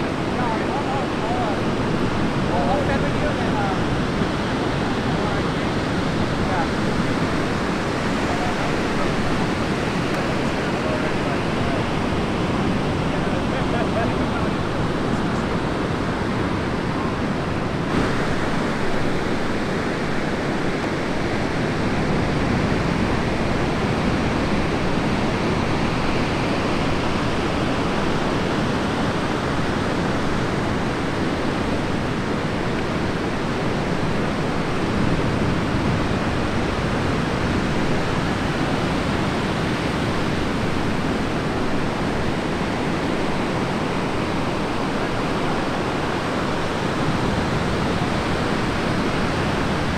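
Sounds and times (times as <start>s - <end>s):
heavy surf breaking: 0.0s - 49.9s.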